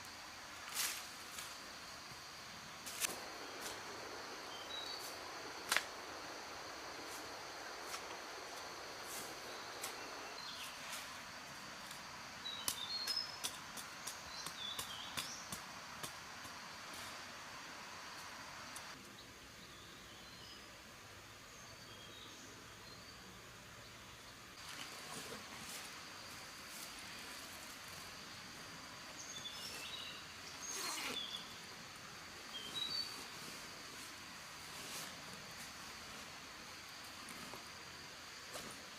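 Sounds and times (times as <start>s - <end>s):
insect drone: 0.0s - 38.9s
steady hiss: 0.0s - 38.9s.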